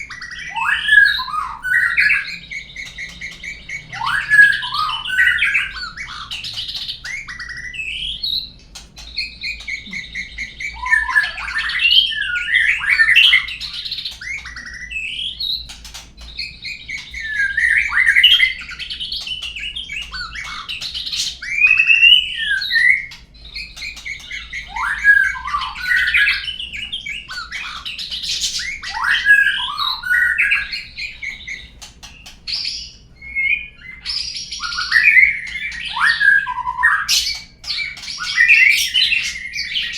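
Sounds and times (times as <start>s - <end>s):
bird whistling and chattering: 0.0s - 39.9s.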